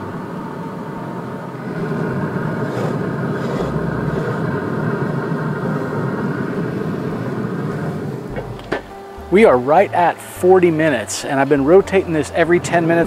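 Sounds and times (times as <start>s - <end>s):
mechanical hum with low rush: 0.0s - 13.0s.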